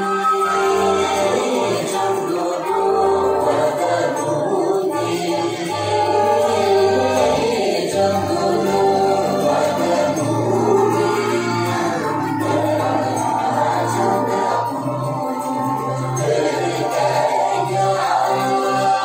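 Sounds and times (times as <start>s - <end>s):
dance music: 0.0s - 19.0s
group of voices singing: 0.0s - 19.0s.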